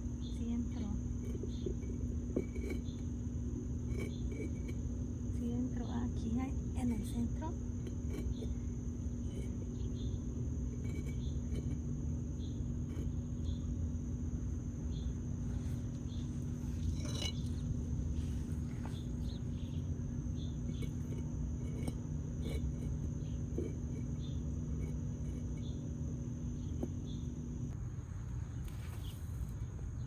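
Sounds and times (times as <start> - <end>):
high insect drone: 0.0 - 30.0
steady low rumble: 0.0 - 30.0.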